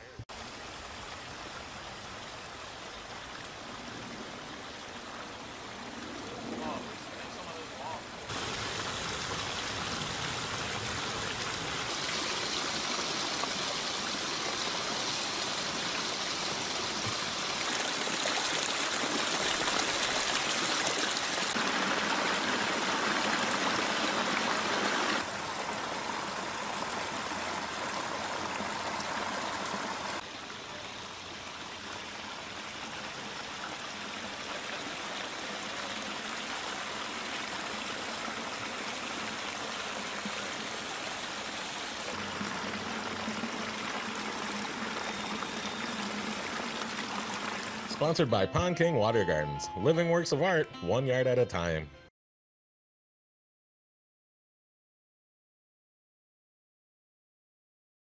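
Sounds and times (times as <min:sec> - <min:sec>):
waterfall splashing over boulders: 0:00.3 - 0:05.8, 0:06.4 - 0:48.1.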